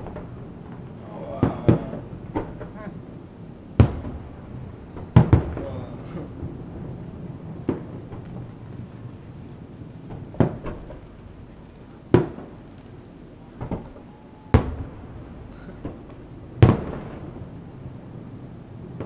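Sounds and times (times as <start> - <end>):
distant firework booms: 0.0 - 19.0.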